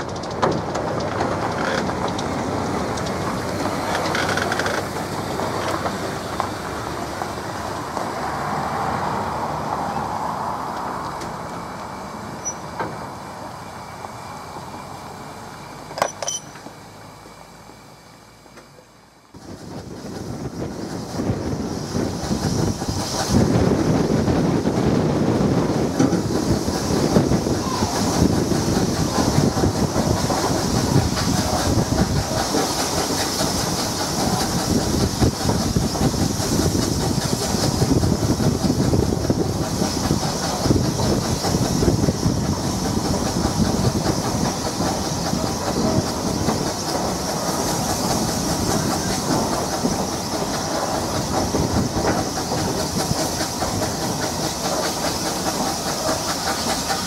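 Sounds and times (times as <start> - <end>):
train wheels clattering over rail joints: 0.0 - 17.4, 18.4 - 57.0
steam hiss: 0.8 - 57.0.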